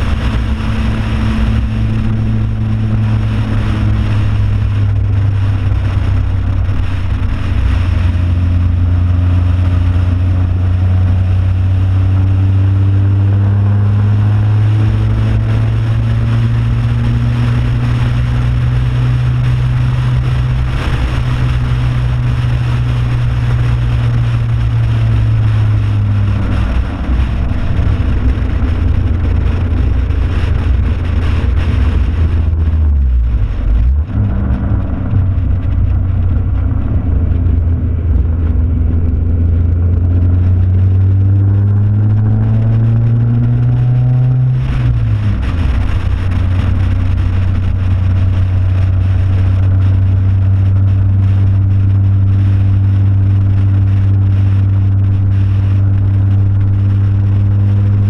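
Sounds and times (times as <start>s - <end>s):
race car engine revving: 0.0s - 58.0s
wind rushing: 0.0s - 58.0s.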